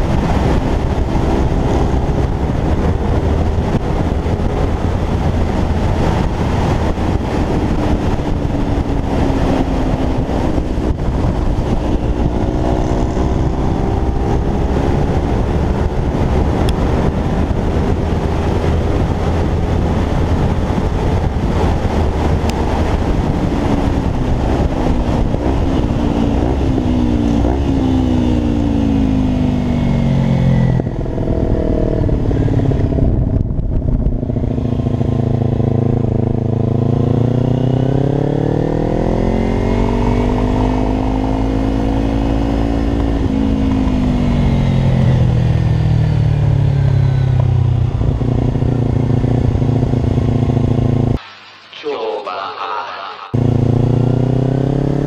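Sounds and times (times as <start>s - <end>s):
wind rush: 0.0s - 45.6s
motorcycle engine revving: 0.0s - 51.2s, 53.3s - 55.0s.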